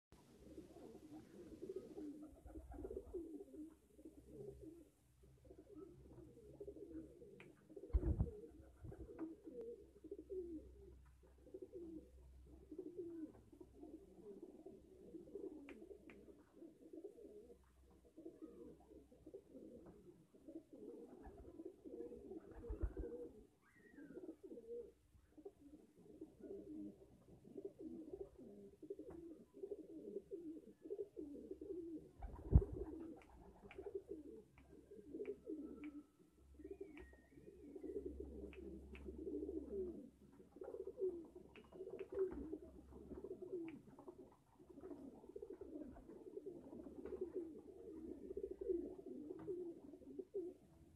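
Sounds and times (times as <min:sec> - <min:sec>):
pigeons cooing: 0:00.2 - 0:50.9.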